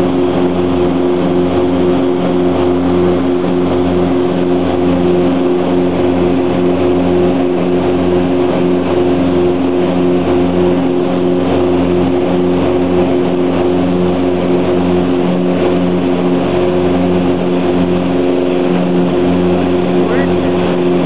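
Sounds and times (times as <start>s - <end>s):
airplane propeller engines droning: 0.0s - 21.0s.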